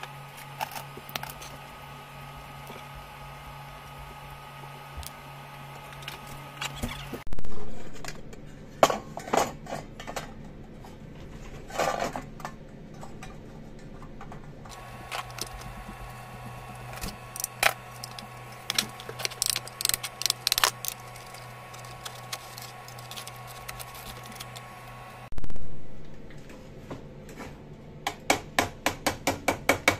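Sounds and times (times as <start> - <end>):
steady low hum: 0.0 - 28.1.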